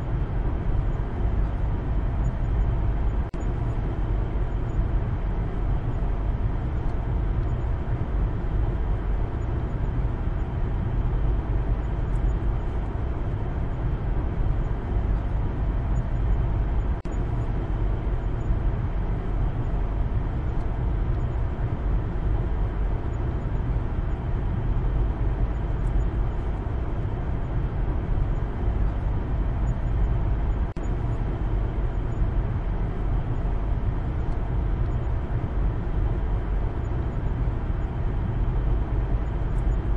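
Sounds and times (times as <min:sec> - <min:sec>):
car cabin road and engine noise: 0:00.0 - 0:39.9.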